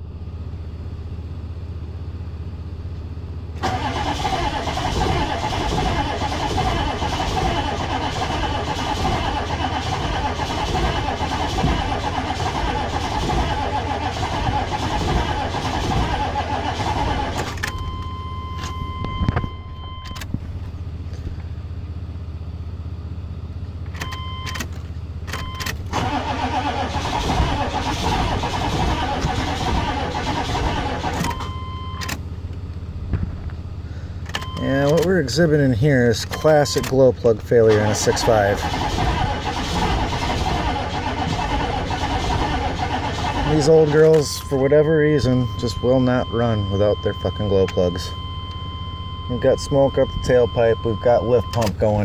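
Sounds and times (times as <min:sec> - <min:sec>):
diesel engine cranking on starter: 0:02.9 - 0:22.0, 0:23.7 - 0:52.0.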